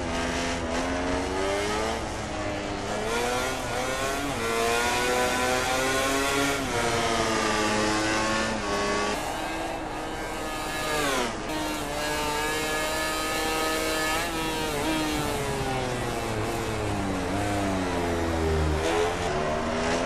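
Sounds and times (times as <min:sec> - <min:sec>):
racing motorcycle engines revving: 0:00.0 - 0:20.0.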